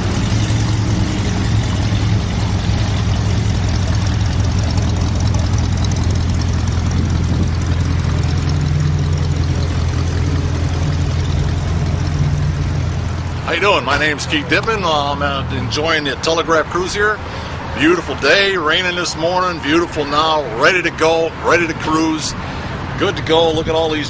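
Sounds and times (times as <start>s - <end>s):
car engines idling: 0.0s - 24.0s
higher engine tone: 0.0s - 24.0s.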